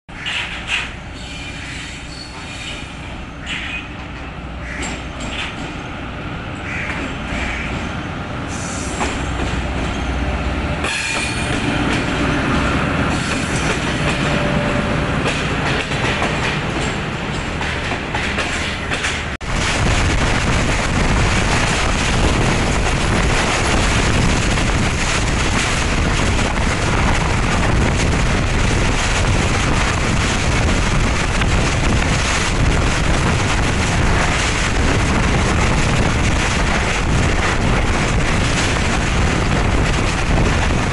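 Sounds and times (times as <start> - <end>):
train wheels on rails: 0.1 - 40.9
locomotive engine running: 2.9 - 40.9.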